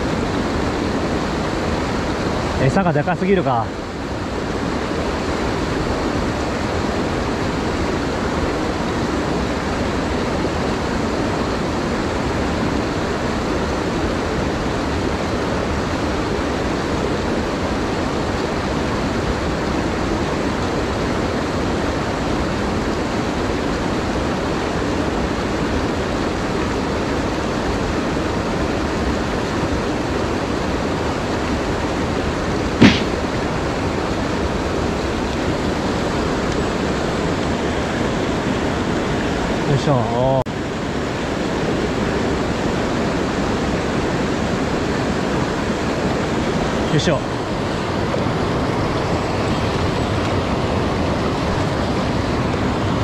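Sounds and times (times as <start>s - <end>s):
stream rushing through rapids: 0.0s - 53.0s.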